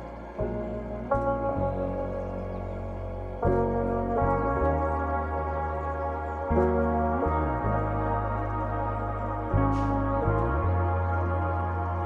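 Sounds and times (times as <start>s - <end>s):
slow ambient keyboard chords: 0.0s - 12.0s.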